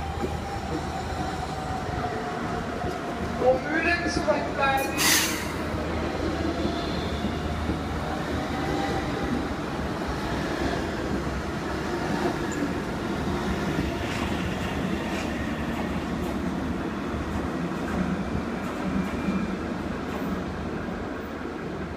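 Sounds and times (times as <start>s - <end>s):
electric train rolling past: 0.0s - 21.9s.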